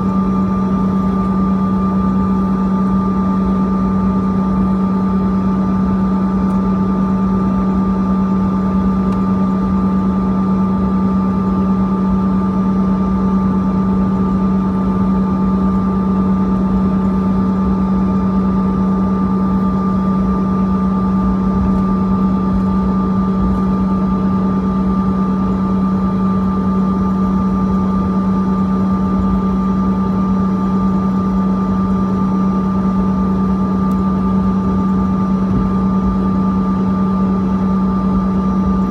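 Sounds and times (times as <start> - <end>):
jet engines droning: 0.0 - 38.9
low hum: 0.0 - 38.9.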